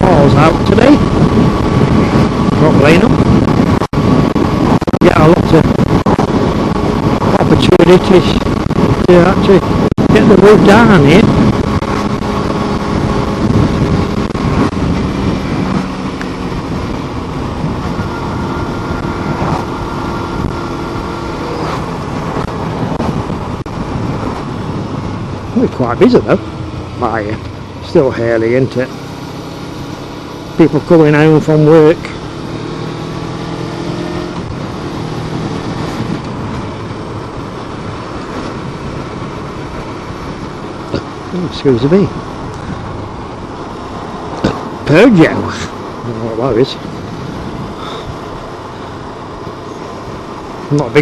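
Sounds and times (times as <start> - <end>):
motorcycle engine running: 0.0 - 51.0
wind and road noise: 0.0 - 51.0.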